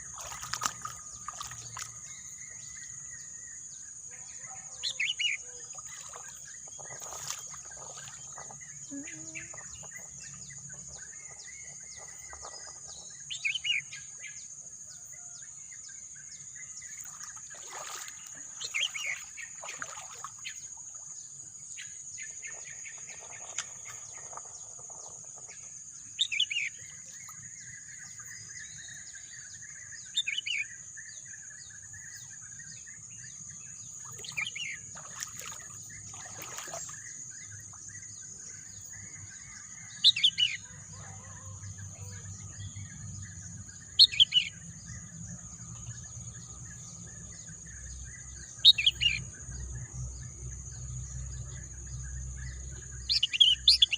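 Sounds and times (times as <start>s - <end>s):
bird chirping: 0.0s - 20.8s, 21.7s - 53.9s.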